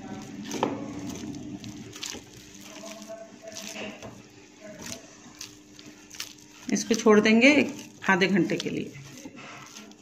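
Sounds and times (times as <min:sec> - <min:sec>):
dough squelching and slapping: 0:00.0 - 0:10.0
steady low hum: 0:00.0 - 0:10.0.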